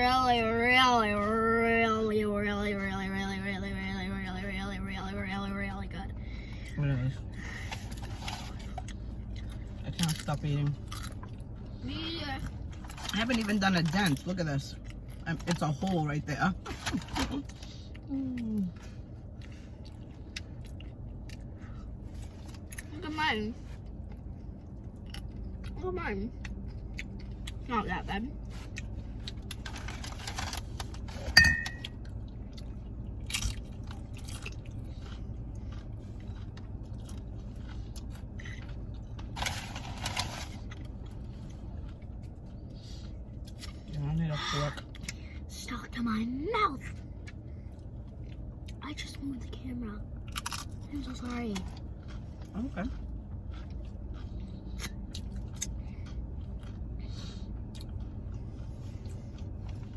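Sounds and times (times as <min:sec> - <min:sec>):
low steady hum: 0:00.0 - 0:59.9
chewing and crunching: 0:06.6 - 0:45.5, 0:46.8 - 0:59.9.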